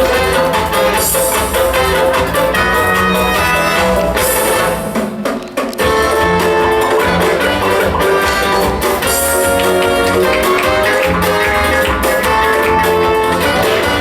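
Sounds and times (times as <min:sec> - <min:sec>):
instrumental music with drums: 0:00.0 - 0:14.0.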